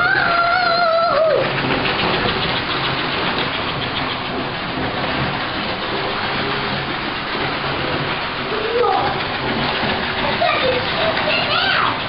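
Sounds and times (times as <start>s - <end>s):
low motor hum: 0.0s - 12.0s
model train rattling on track: 0.0s - 12.0s.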